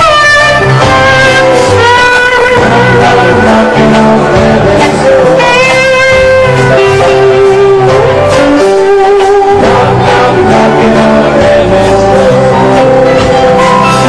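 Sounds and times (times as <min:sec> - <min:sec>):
electric guitar gliding held notes: 0:00.0 - 0:14.0
live rock band music: 0:00.0 - 0:14.0.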